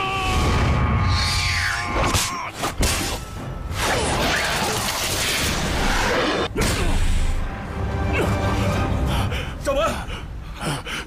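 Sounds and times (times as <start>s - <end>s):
background music: 2.1s - 11.0s.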